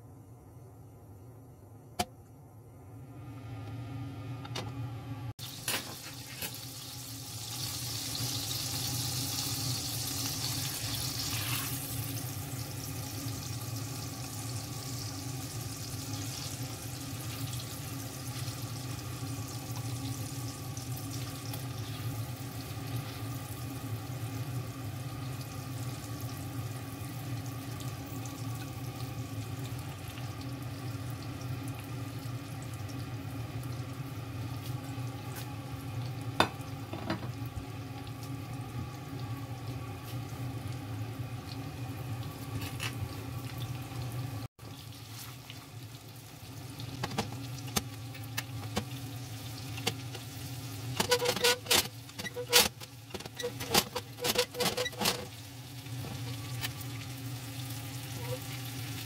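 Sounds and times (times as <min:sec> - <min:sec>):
food sizzling in a frying pan: 0:05.4 - 0:59.0.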